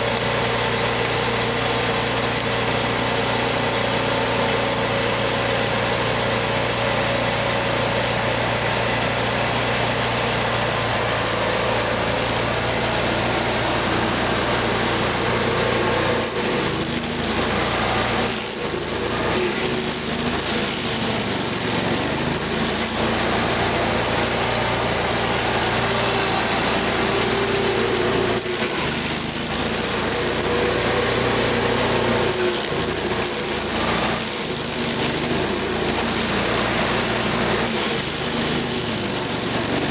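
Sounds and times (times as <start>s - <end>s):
cutting wheel grinding stump: 0.0s - 39.9s
stump grinder engine running: 0.0s - 39.9s.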